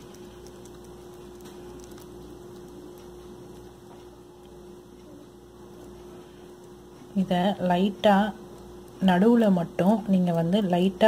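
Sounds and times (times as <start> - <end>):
electrical hum: 0.0 - 11.0
hands rolling wet meat mixture: 0.0 - 11.0.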